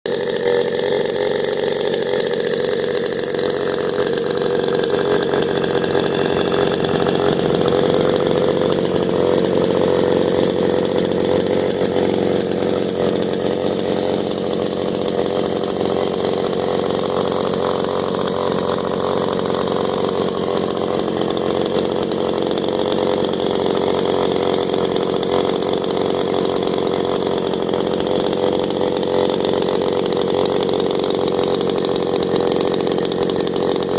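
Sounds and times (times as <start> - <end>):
chainsaw running steadily: 0.0 - 33.9.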